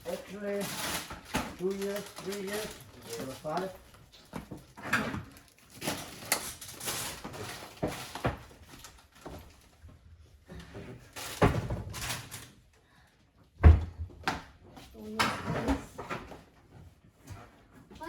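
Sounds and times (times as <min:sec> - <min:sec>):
knocks and rustling clatter: 0:00.0 - 0:12.6, 0:13.5 - 0:18.0.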